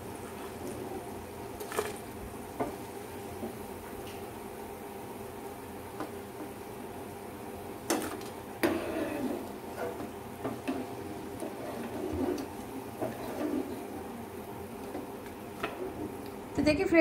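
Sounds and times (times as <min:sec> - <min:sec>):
pakoras sizzling in hot oil: 0:00.0 - 0:16.6.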